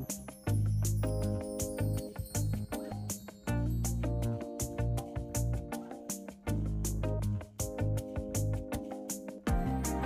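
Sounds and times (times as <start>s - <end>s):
music with beat and plucked strings: 0.0s - 10.0s.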